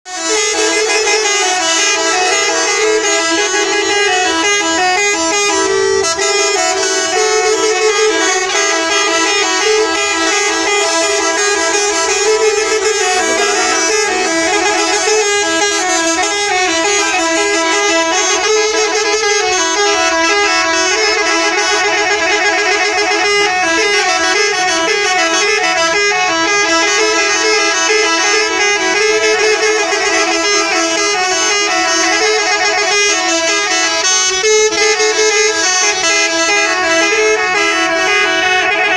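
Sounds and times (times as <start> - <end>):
multi-tone musical air horn: 0.1 - 38.9.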